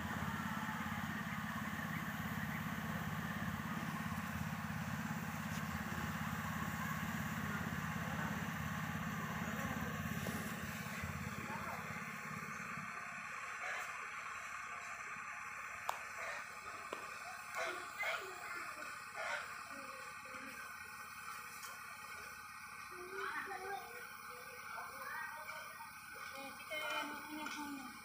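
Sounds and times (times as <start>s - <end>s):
engine running with low hum: 0.0s - 28.0s.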